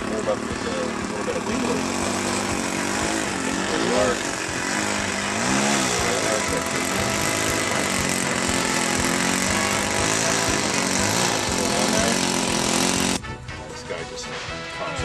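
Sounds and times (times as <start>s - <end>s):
model airplane engine buzzing: 0.0s - 13.2s.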